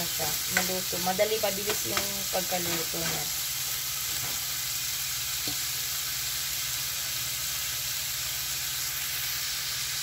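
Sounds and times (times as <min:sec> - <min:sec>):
bacon and onion sizzling in oil: 0:00.0 - 0:10.0.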